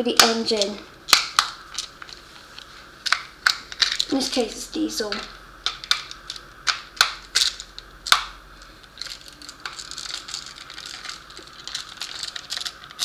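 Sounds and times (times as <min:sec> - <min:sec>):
small hard objects clicking: 0:00.2 - 0:04.4, 0:05.1 - 0:13.0.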